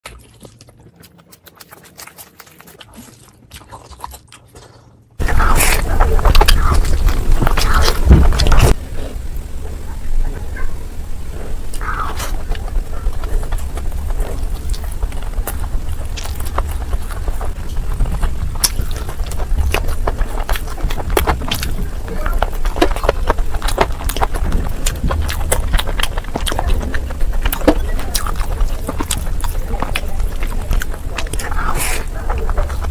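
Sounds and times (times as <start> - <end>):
person chewing and crunching food: 0.0 - 32.9
low rumble: 5.2 - 32.9.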